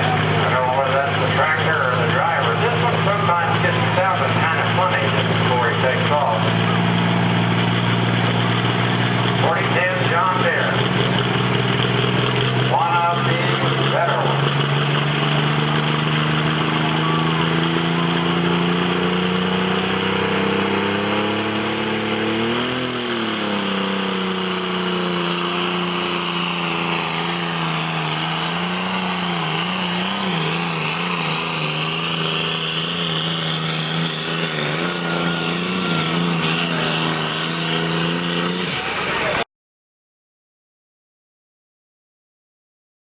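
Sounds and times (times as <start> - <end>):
tractor engine under heavy load: 0.0 - 39.4.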